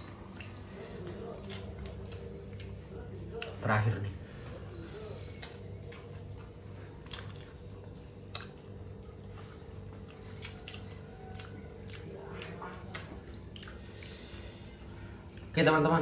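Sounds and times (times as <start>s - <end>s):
person chewing food: 0.0s - 15.6s.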